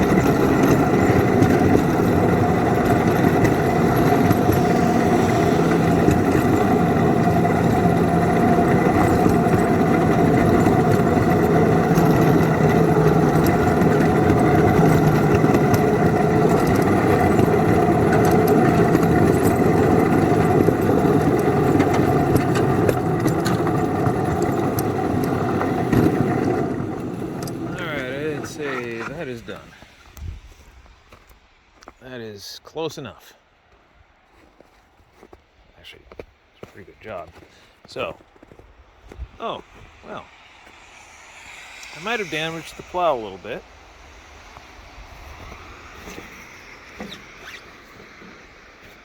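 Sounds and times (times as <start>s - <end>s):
locomotive engine running: 0.0s - 31.2s, 36.1s - 49.0s.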